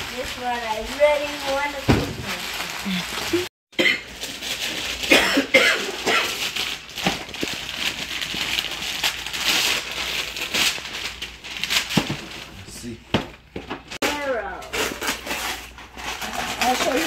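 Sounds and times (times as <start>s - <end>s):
wrapping paper tearing and crinkling: 0.0s - 13.0s, 13.9s - 17.0s.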